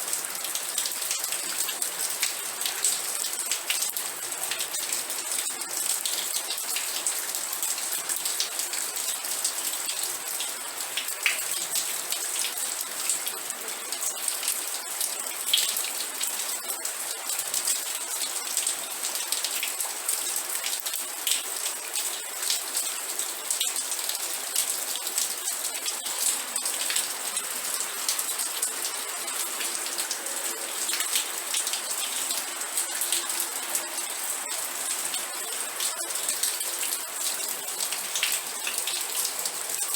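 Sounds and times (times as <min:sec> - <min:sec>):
steady rain falling: 0:00.0 - 0:39.9
raindrops ticking on a surface: 0:00.1 - 0:39.9.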